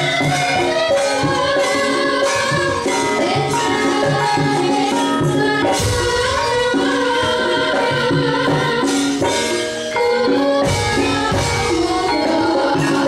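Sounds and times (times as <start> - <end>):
drum strokes: 0.0 - 13.0
struck ringing pitched notes: 0.0 - 13.0.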